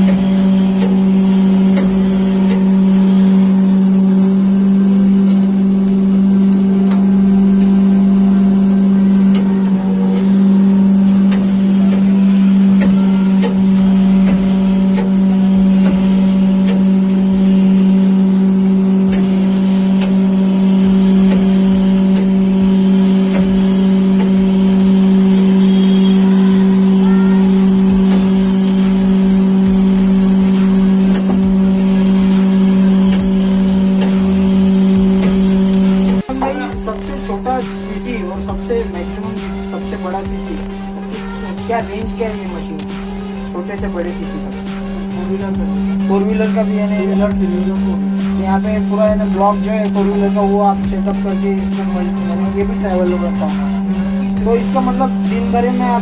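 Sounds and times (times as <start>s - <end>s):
honing machine motor hum: 0.0s - 56.0s.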